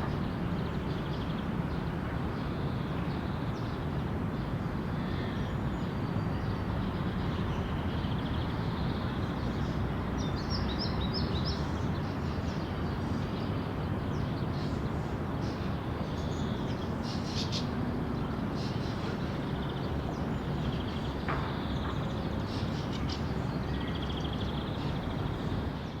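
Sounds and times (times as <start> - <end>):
road traffic rumble: 0.0 - 26.0
small birds chirping: 5.0 - 26.0.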